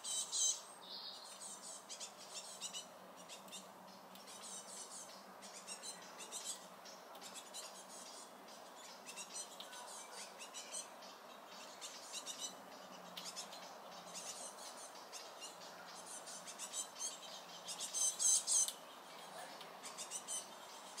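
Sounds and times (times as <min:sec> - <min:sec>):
squirrel squeaking: 0:00.0 - 0:00.6, 0:01.2 - 0:18.8.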